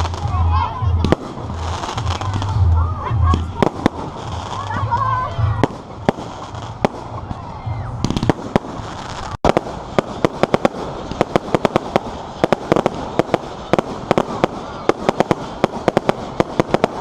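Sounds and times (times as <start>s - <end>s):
firework bangs: 0.0s - 17.0s
fireworks crackling: 0.0s - 17.0s.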